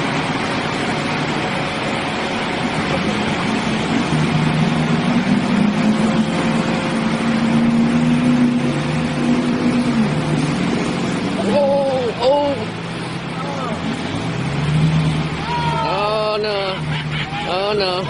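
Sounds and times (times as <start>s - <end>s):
churning water rushing: 0.0s - 18.0s
pickup truck engine under load: 0.0s - 18.0s.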